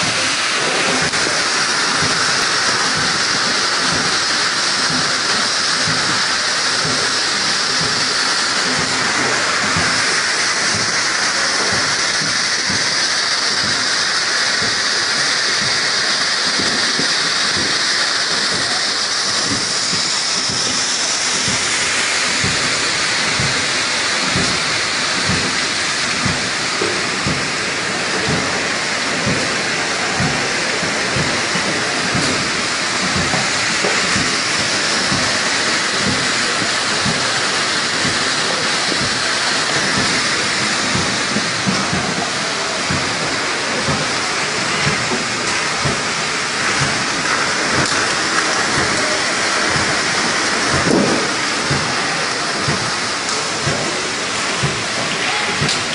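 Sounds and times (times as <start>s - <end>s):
machine hissing and rattling: 0.0s - 55.9s.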